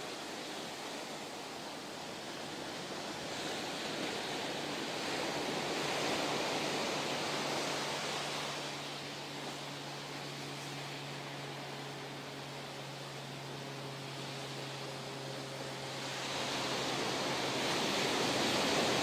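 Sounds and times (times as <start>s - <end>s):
ocean surf rushing: 0.0s - 12.2s, 15.9s - 19.0s.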